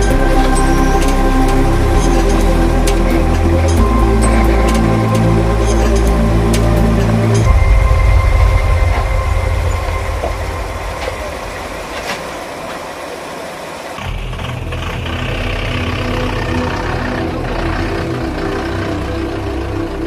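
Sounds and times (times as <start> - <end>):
engine idling: 0.0 - 13.0, 14.0 - 20.0
excavator diesel engine running: 0.0 - 20.0.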